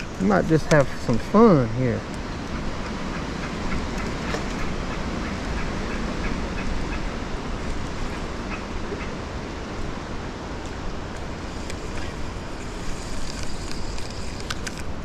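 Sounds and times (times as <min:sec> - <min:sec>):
water noise: 0:00.0 - 0:15.0
wind noise: 0:00.0 - 0:15.0.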